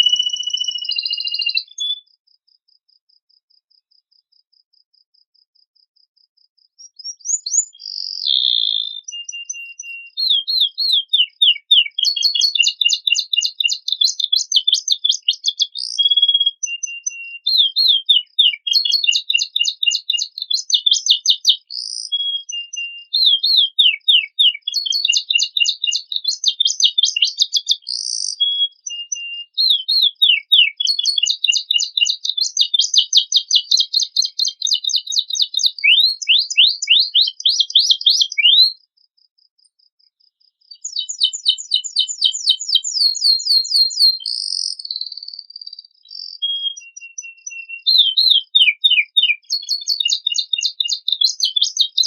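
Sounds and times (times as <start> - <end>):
canary singing: 0.0 - 2.1, 6.8 - 38.8, 40.7 - 52.0.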